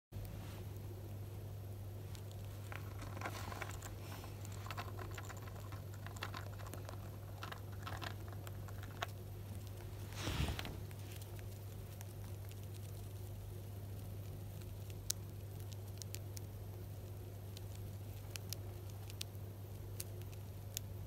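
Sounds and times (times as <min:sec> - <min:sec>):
hamster crunching snack: 0:00.2 - 0:21.0.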